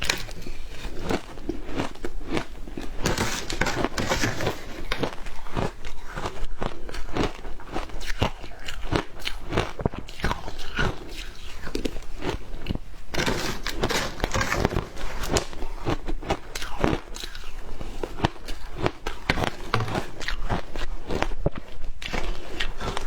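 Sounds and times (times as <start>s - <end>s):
ice being crunched and chewed: 0.0s - 23.0s.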